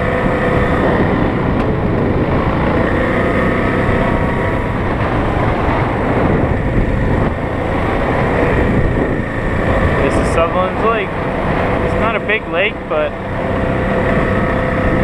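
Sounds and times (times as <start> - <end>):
vehicle engine running: 0.0 - 15.0
wind rumble on microphone: 0.0 - 15.0.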